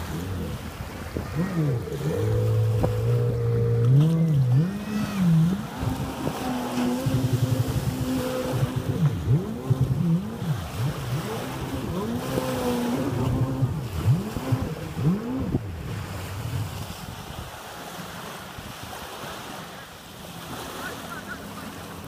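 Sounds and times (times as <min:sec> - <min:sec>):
jet ski engines revving: 0:00.0 - 0:22.0.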